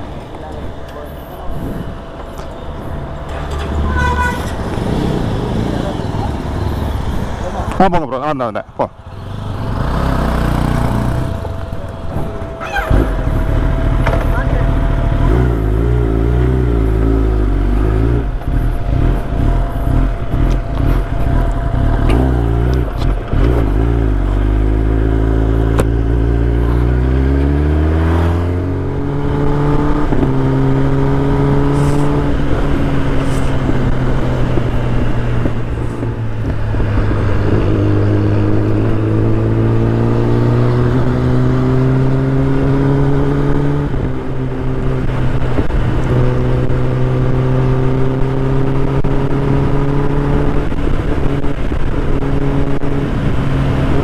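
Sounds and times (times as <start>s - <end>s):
motorcycle engine revving: 0.0s - 7.8s, 8.9s - 54.0s.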